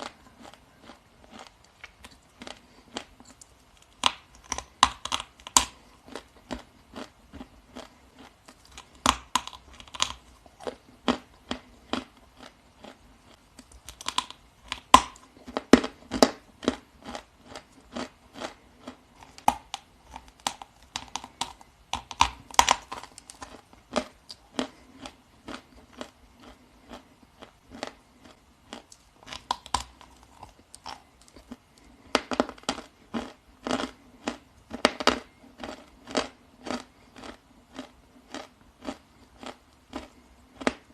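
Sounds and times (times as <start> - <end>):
chewing and crunching clay: 0.0 - 40.9.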